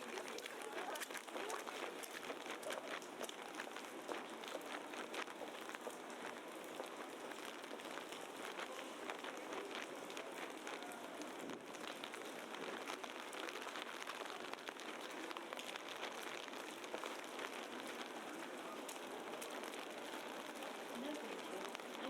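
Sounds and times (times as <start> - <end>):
wet snow pattering on street: 0.0 - 22.0.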